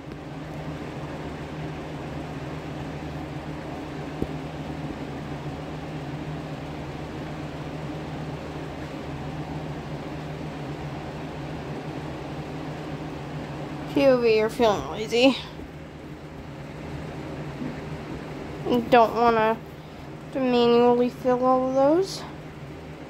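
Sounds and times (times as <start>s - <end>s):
electric fan whirring: 0.0s - 23.0s.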